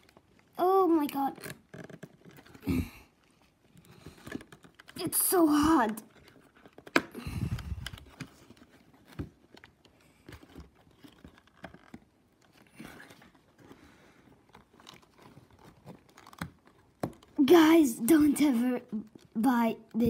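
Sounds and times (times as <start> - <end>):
cardboard and paper rustling: 0.0 - 20.0.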